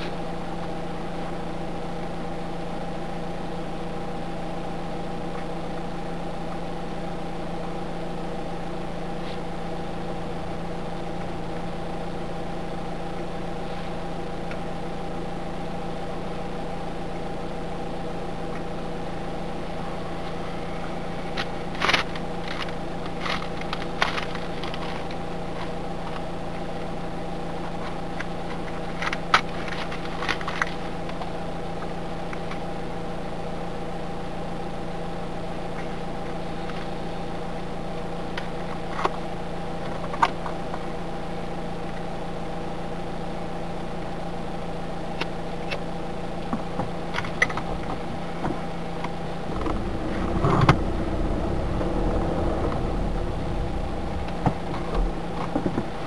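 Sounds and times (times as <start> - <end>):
steady car interior hum: 0.0 - 56.0.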